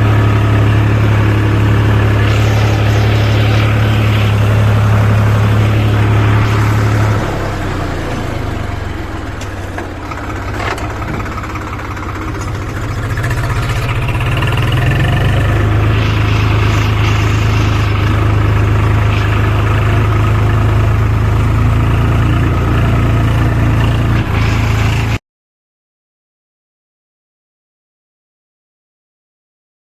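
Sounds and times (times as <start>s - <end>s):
heavy diesel engine running: 0.0s - 25.2s.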